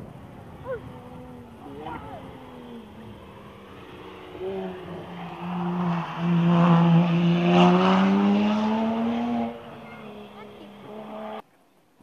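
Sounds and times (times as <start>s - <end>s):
rally car engine accelerating: 0.6s - 11.4s.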